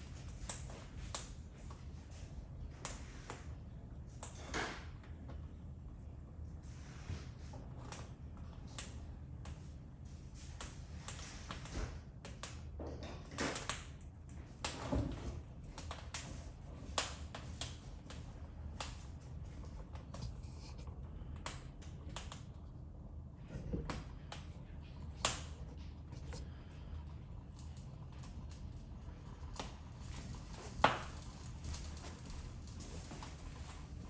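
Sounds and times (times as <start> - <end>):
fire crackling and popping: 0.0 - 5.0, 7.9 - 34.0
low fire rumble: 0.0 - 34.0.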